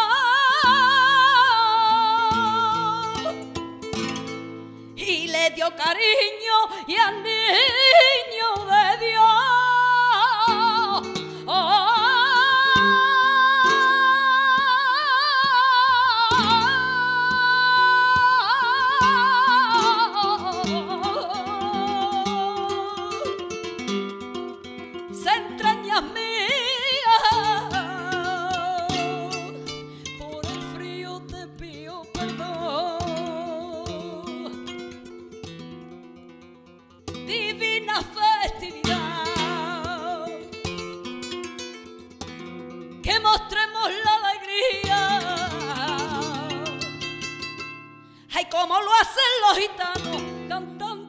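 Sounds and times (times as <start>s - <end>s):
woman singing: 0.0s - 3.6s, 5.0s - 24.0s, 24.6s - 35.4s, 37.1s - 42.1s, 42.9s - 51.0s
flamenco guitar plucking: 0.0s - 51.0s.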